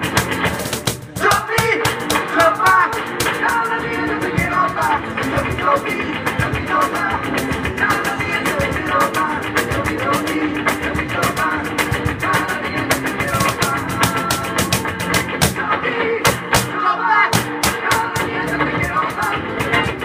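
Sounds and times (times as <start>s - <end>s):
cajon drum beat: 0.0s - 20.0s
electric guitar: 0.0s - 20.0s.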